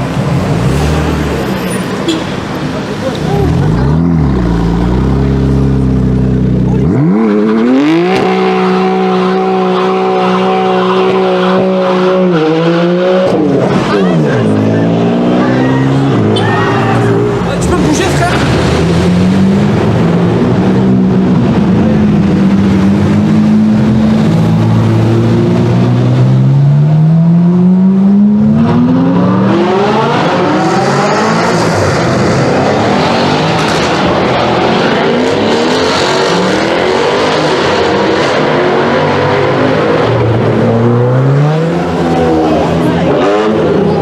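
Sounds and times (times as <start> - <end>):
car engine accelerating: 0.0 - 44.0.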